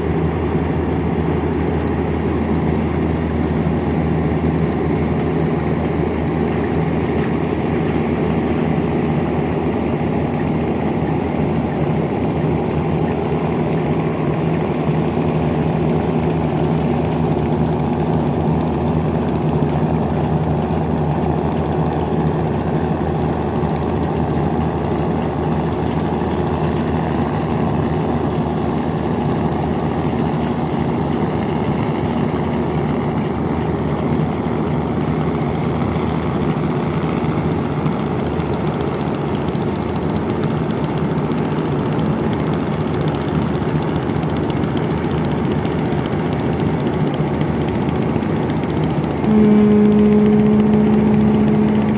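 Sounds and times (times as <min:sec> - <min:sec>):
boat engine droning: 0:00.0 - 0:51.9.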